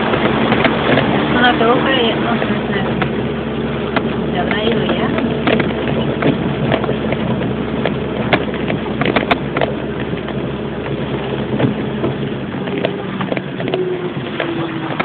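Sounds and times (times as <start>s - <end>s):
engine running: 0.0s - 15.0s
water splashing: 0.0s - 15.0s.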